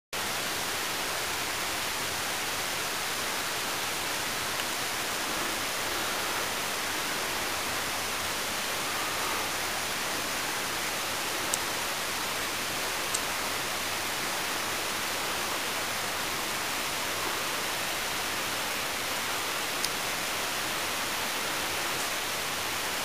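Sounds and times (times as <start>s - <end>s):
waterfall rushing: 0.2s - 23.0s.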